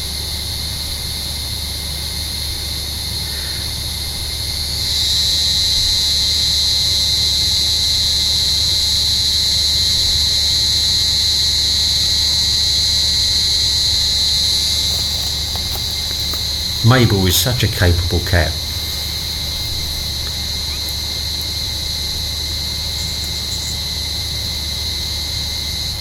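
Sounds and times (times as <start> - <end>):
cicadas buzzing: 4.5 - 26.0.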